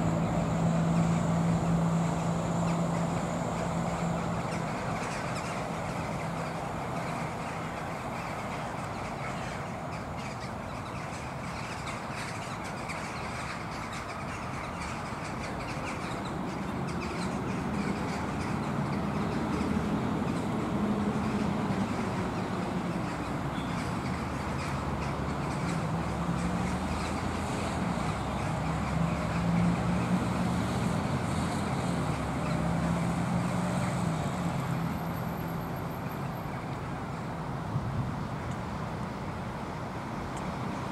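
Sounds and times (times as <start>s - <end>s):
low vehicle hum: 0.0s - 40.9s.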